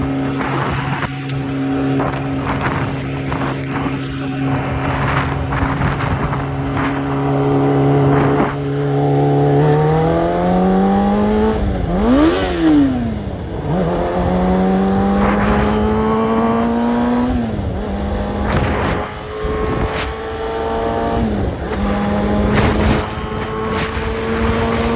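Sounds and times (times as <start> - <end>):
motorcycle engine: 0.0 - 24.9.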